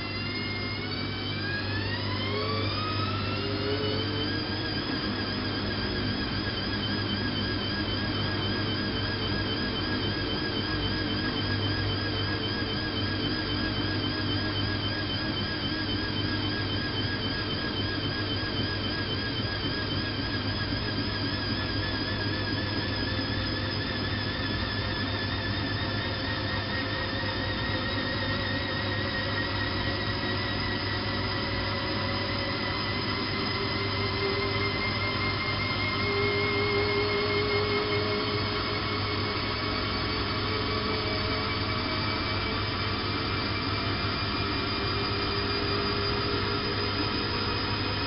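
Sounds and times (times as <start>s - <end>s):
washing machine spin whine: 0.0s - 48.0s.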